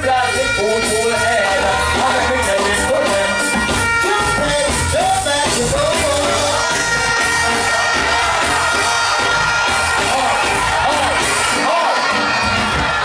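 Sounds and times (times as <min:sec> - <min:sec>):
dancehall music over sound system: 0:00.0 - 0:13.0.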